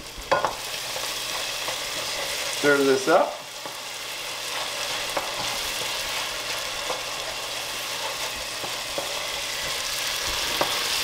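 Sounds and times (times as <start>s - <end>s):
scallops sizzling in oil: 0.0s - 11.0s.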